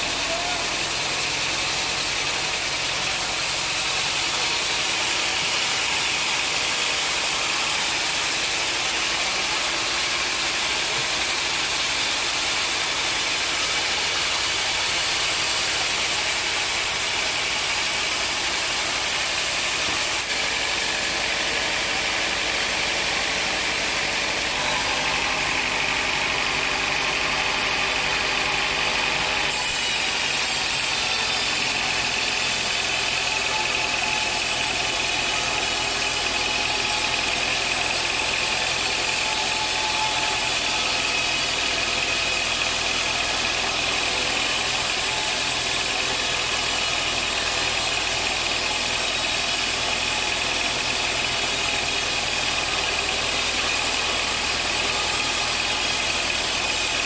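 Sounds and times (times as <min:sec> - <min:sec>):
sawmill machinery drone with hiss: 0:00.0 - 0:57.0.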